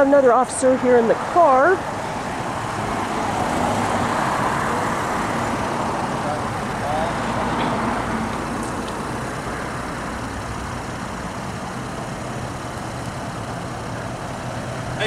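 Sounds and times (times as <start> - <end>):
engine humming: 0.0 - 15.0
road traffic: 0.0 - 15.0.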